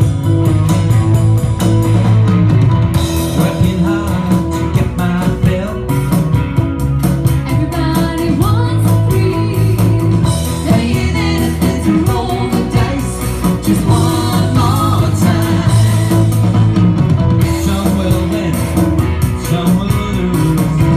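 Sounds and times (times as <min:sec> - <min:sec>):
rock music with sung vocal: 0:00.0 - 0:20.9.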